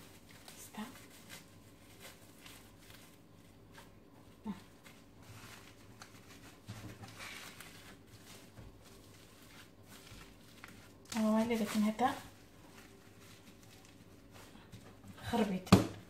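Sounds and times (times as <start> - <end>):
plastic cling film crinkling: 0.0 - 16.0.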